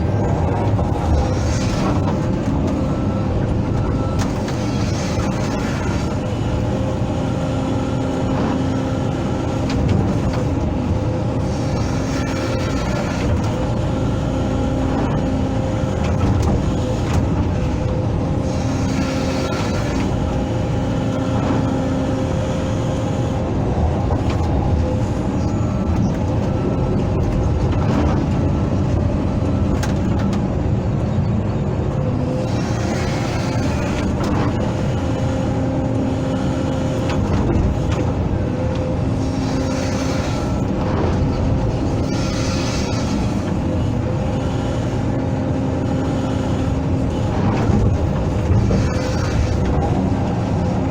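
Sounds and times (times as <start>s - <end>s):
excavator diesel engine running: 0.0s - 50.9s
hydraulic humming tone: 0.0s - 50.9s.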